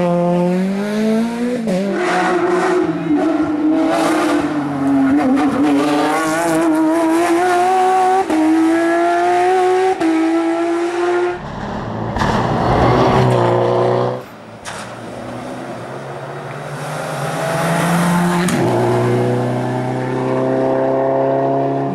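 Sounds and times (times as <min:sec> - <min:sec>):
rally car engine revving: 0:00.0 - 0:15.6, 0:16.4 - 0:21.9.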